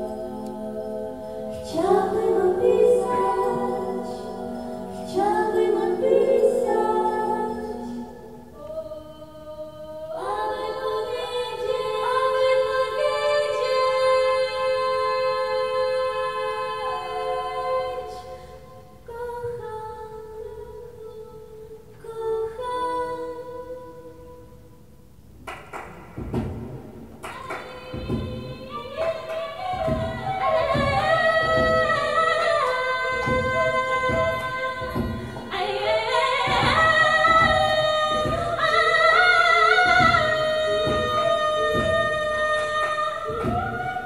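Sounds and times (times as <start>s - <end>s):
woman singing unaccompanied: 0.0s - 18.3s, 19.0s - 24.3s, 27.2s - 44.0s.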